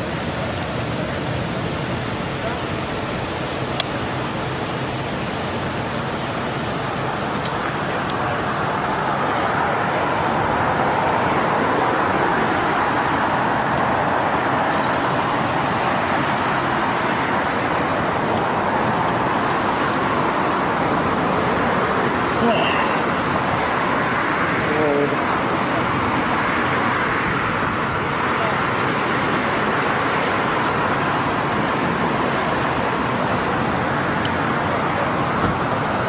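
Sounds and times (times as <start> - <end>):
passing cars traffic noise: 0.0 - 36.0.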